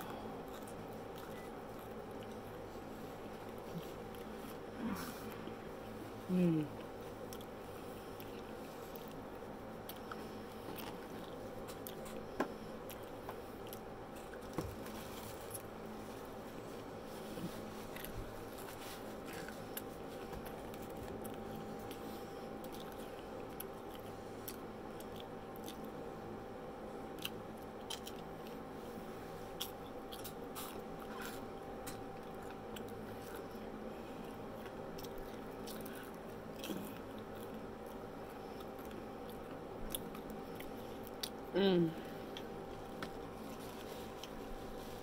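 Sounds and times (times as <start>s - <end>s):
chewing crunchy food: 0.0s - 45.0s
faint steady hum: 0.0s - 45.0s.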